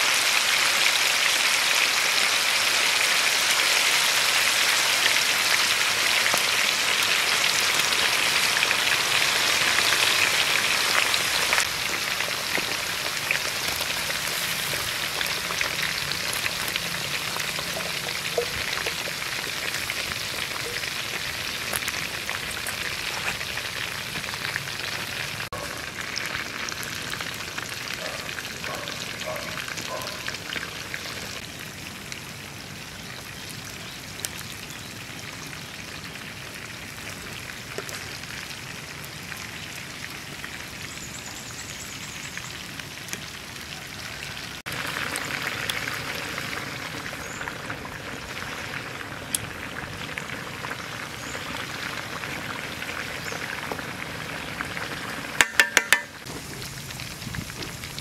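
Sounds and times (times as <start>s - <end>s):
food deep-frying in hot oil: 0.0s - 58.0s.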